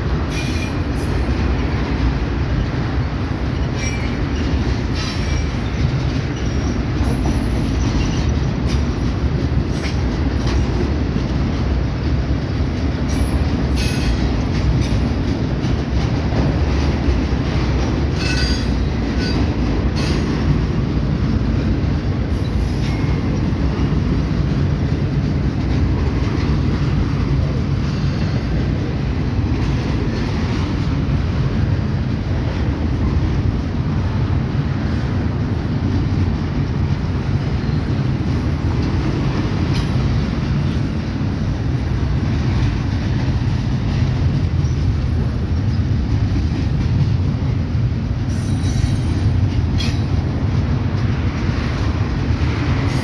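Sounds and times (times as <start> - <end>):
train cars rumbling past: 0.0 - 53.0.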